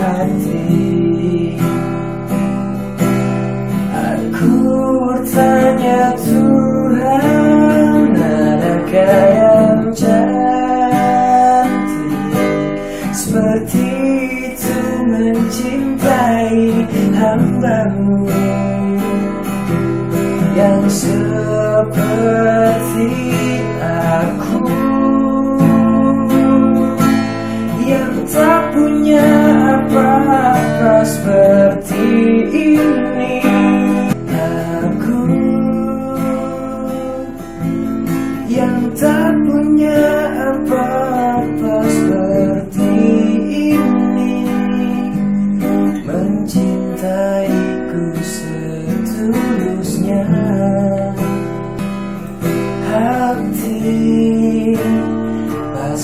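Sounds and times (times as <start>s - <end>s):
person singing: 0.0s - 2.3s, 3.8s - 37.6s, 38.4s - 56.0s
acoustic guitar strumming: 0.0s - 56.0s.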